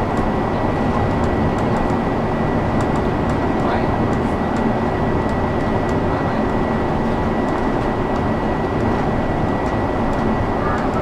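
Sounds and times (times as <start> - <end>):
bus engine and tyres rumbling: 0.0 - 11.0.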